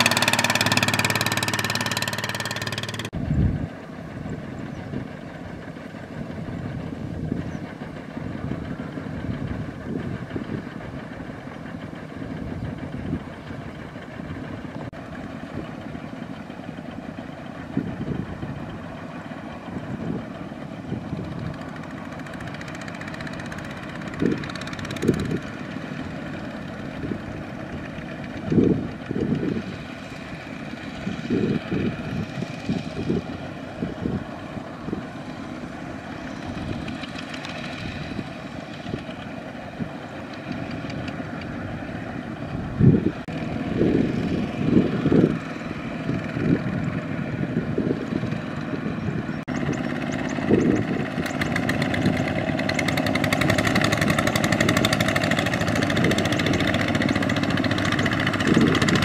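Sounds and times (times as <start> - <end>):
diesel tiller engines running: 0.0 - 59.0.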